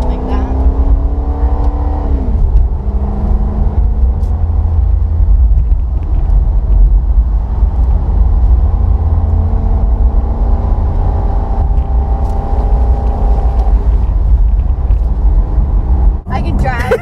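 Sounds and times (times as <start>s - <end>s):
car engine deep low note: 0.0s - 16.8s.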